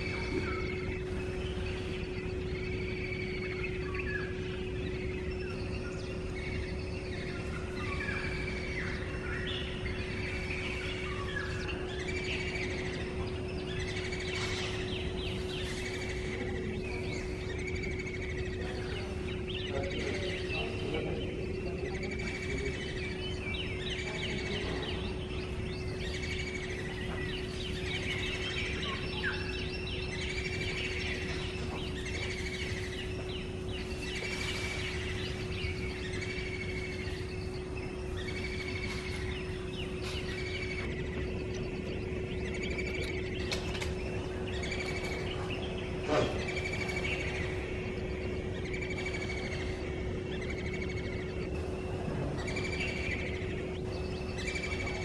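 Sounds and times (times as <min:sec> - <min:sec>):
birds chirping and calling: 0:00.0 - 0:55.0
steady low hum: 0:00.0 - 0:55.0.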